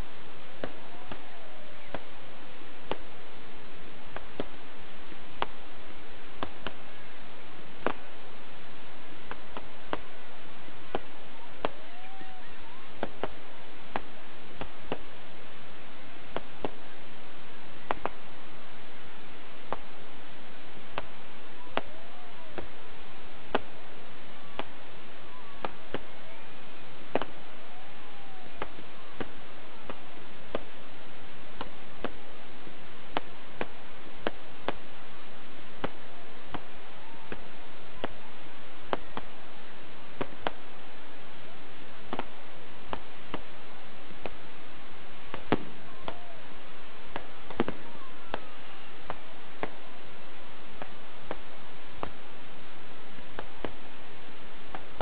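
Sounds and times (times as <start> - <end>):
fireworks exploding: 0.0 - 55.0
steady hiss: 0.0 - 55.0.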